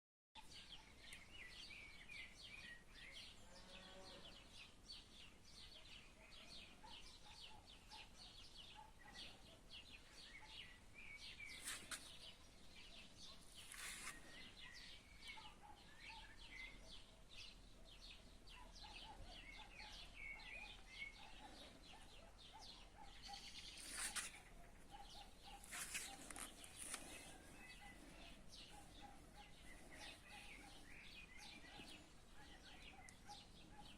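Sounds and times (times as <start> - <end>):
songbirds chirping: 0.4 - 33.9.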